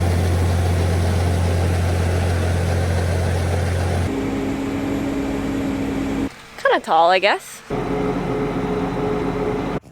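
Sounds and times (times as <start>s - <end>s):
engine drone: 0.0s - 6.6s, 7.7s - 9.9s.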